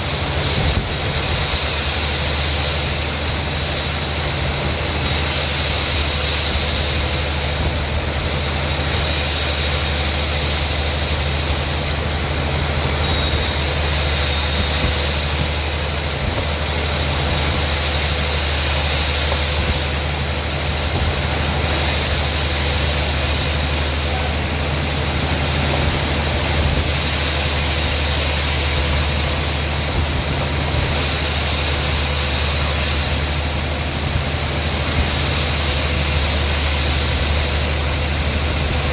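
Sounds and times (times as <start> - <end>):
low motor hum: 0.0 - 38.9.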